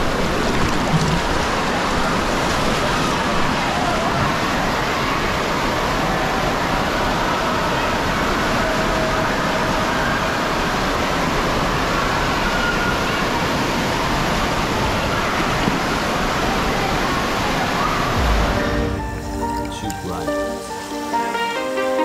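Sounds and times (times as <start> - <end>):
water gushing into splash pool: 0.0 - 21.3.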